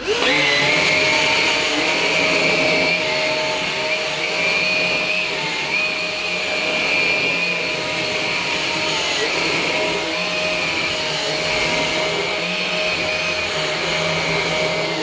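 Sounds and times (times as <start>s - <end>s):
vacuum cleaner on carpet: 0.0s - 15.0s.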